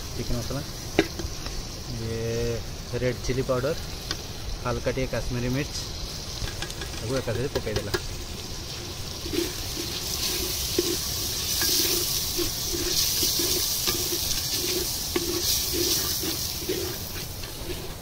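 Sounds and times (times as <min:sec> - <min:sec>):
spices frying in hot oil: 0:00.0 - 0:18.0.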